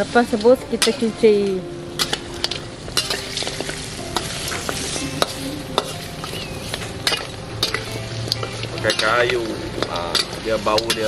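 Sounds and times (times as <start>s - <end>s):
meat sizzling in oil: 0.0s - 11.0s
metal spatula scraping and clinking: 2.0s - 11.0s.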